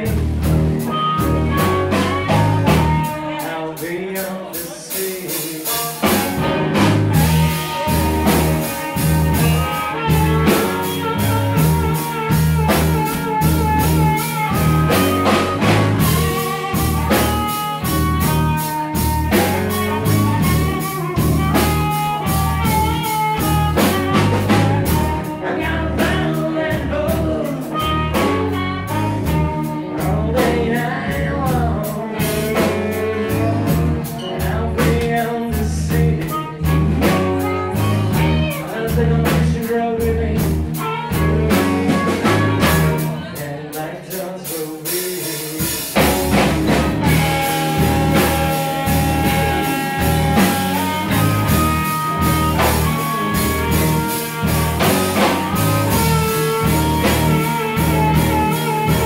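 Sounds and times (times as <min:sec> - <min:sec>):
blues rock band playing: 0:00.0 - 0:59.0.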